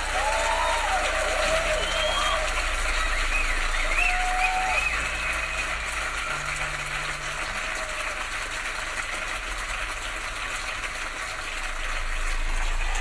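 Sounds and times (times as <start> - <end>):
crowd noise through car speakers: 0.0 - 13.0.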